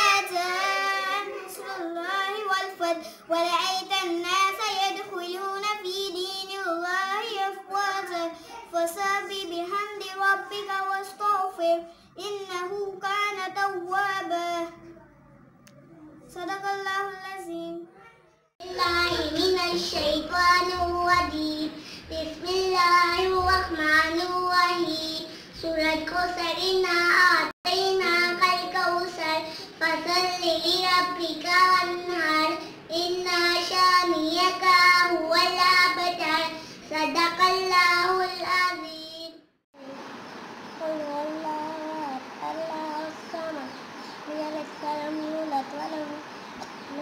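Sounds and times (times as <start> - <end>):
girl singing unaccompanied: 0.0 - 47.0.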